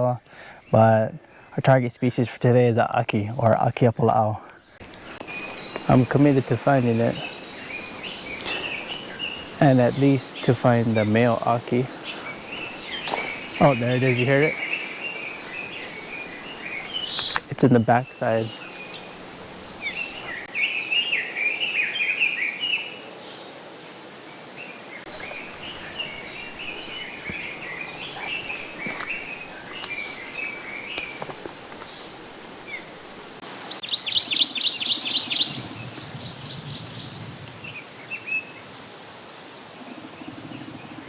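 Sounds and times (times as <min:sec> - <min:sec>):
songbirds singing: 0:03.4 - 0:23.6, 0:24.2 - 0:39.0, 0:39.6 - 0:41.0.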